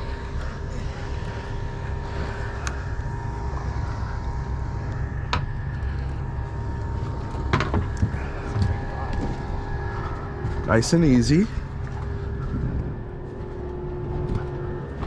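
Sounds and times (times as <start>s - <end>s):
outboard engines idling: 0.0s - 15.0s.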